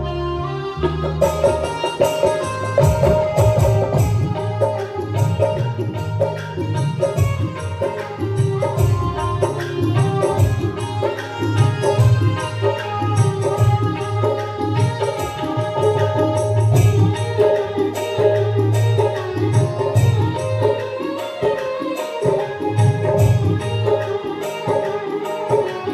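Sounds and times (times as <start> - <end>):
hand-drum percussion: 0.8 - 25.9.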